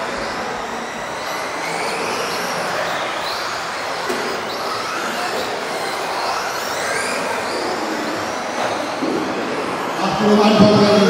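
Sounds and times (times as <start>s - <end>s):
rc car motors whining: 0.0s - 11.0s.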